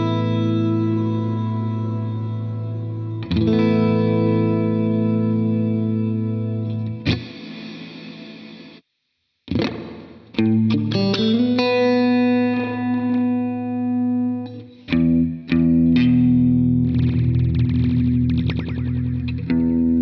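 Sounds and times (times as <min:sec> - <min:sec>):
electric guitar with reverb: 0:00.0 - 0:08.8, 0:09.5 - 0:20.0.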